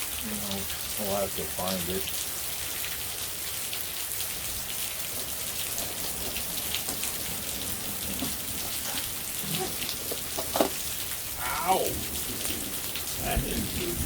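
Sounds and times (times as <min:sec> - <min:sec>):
heavy rain falling: 0:00.0 - 0:14.0
raindrops striking surfaces: 0:00.0 - 0:14.0.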